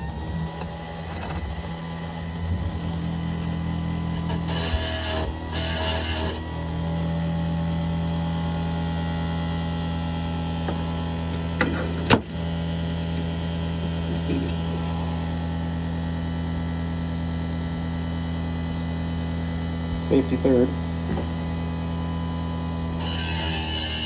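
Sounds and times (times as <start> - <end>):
grinding-wheel motor humming: 0.0 - 24.0.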